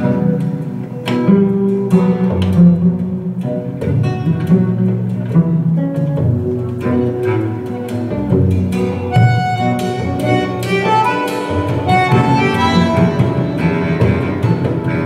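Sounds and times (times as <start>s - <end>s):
bowed string music over loudspeakers: 0.0s - 15.0s.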